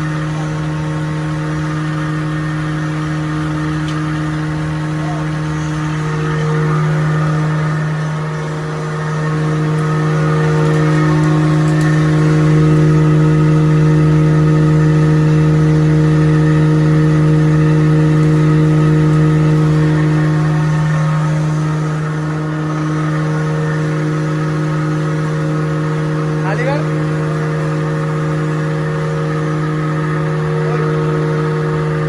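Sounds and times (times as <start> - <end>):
wood grinding machine humming: 0.0 - 32.0.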